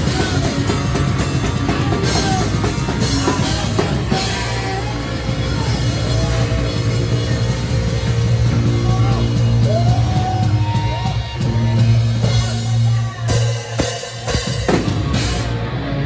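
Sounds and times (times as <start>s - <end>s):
drum and cymbal accents: 0.0s - 16.0s
hardcore punk band playing: 0.0s - 16.0s.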